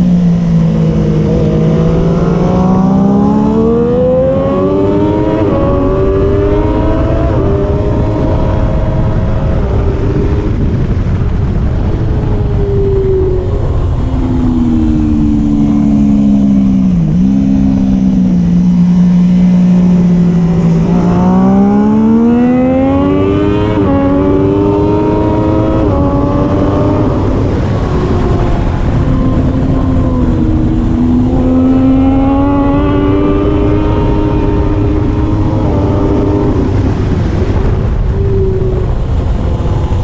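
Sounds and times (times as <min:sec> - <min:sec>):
motorcycle engine revving: 0:00.0 - 0:40.0
wind rush: 0:00.0 - 0:40.0.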